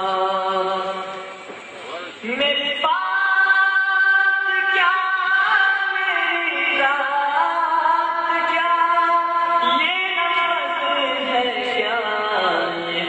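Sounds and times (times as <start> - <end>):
person chanting a prayer: 1.9 - 13.0.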